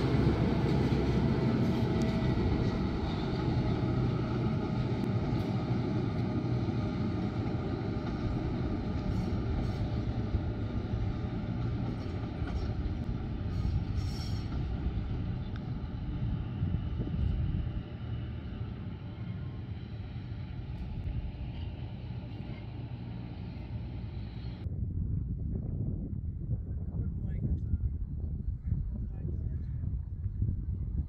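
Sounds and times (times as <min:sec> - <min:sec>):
train rumbling along track: 0:00.0 - 0:25.1.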